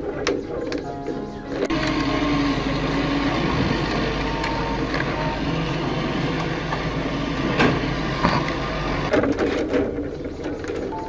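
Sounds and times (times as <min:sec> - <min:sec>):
steady background hum: 0:00.0 - 0:10.6.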